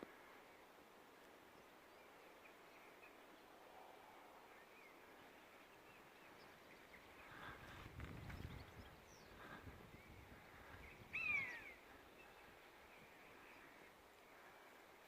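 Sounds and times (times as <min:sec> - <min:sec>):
faint bird chirps: 0:01.5 - 0:15.0.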